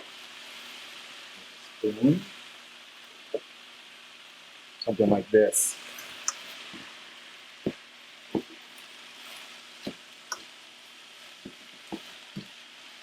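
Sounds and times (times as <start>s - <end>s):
stir fry sizzling in a pan: 0.0s - 13.0s.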